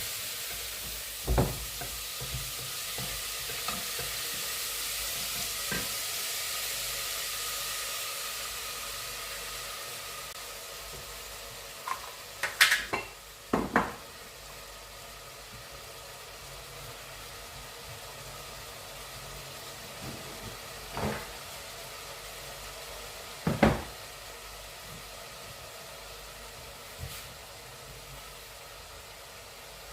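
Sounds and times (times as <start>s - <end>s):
food sizzling in a pan: 0.0s - 29.9s.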